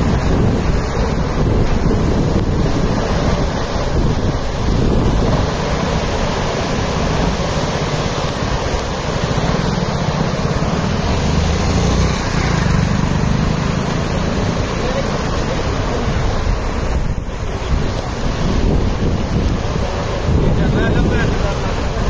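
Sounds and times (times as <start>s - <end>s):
river rushing roar: 0.0s - 22.0s
wind buffeting microphone: 0.0s - 22.0s.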